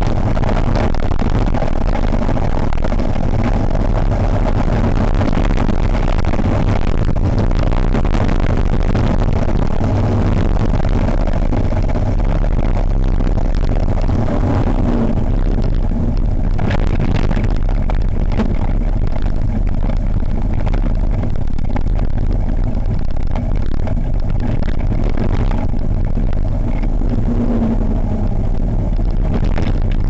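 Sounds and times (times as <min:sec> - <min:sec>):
small tyres rumbling on tarmac: 0:00.0 - 0:30.0
wind rushing on microphone: 0:00.0 - 0:30.0.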